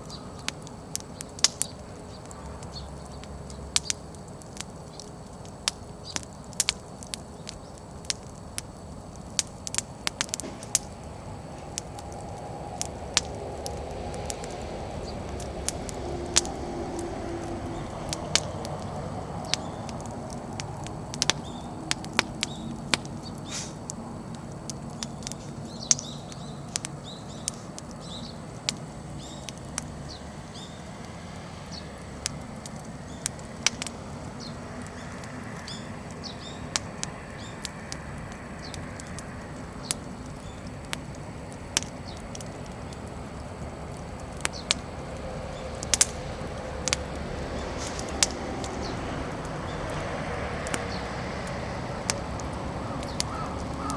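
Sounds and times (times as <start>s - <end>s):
small birds chirping: 0.0s - 11.1s, 11.8s - 30.9s, 31.6s - 50.0s, 50.7s - 53.9s
fire crackling and popping: 0.0s - 53.9s.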